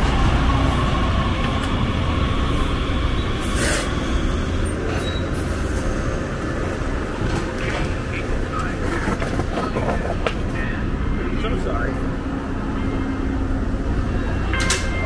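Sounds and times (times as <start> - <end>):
light rail train rumble: 0.0 - 15.0.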